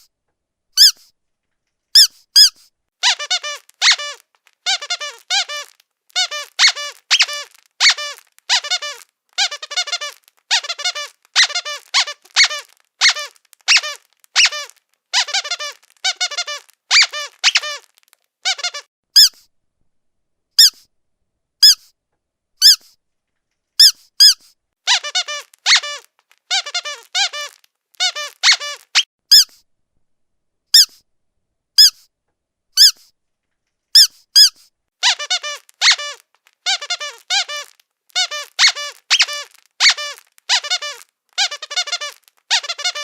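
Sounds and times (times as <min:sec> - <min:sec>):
squeaky dog toy squeezed: 0:00.8 - 0:01.1, 0:01.9 - 0:19.5, 0:20.6 - 0:20.9, 0:21.6 - 0:22.0, 0:22.6 - 0:23.0, 0:23.8 - 0:29.7, 0:30.7 - 0:31.1, 0:31.8 - 0:32.1, 0:32.7 - 0:33.1, 0:33.9 - 0:43.0.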